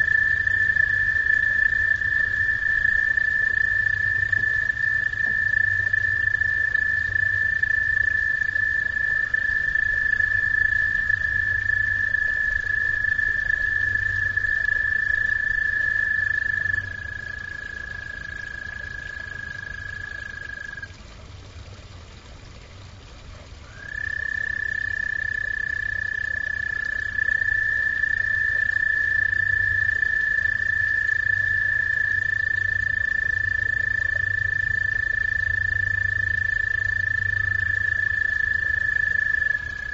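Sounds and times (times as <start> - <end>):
frogs trilling: 0.0 - 21.8, 22.6 - 39.9.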